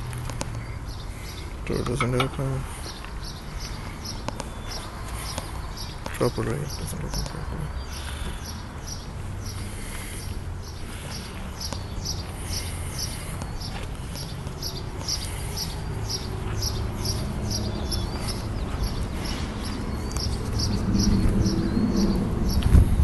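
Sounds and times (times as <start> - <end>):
bird chirping: 0.5 - 22.8.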